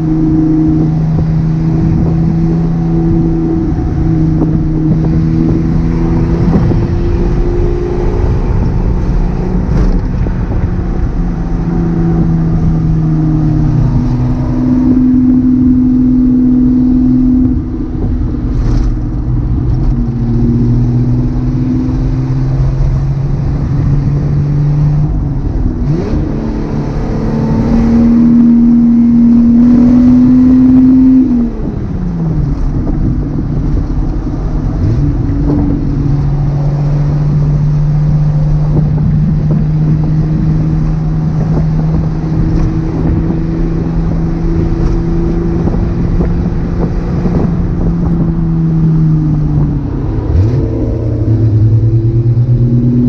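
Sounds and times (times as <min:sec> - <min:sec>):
car engine and exhaust revving: 0:00.0 - 0:53.0.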